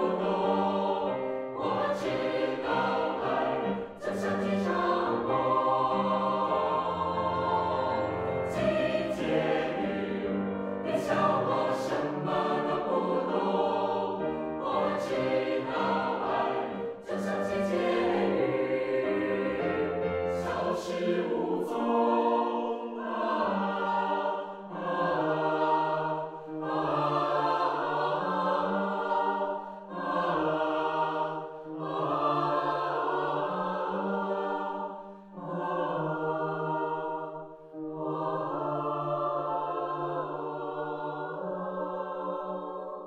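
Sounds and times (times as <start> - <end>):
mixed choir singing slowly: 0.0 - 43.0.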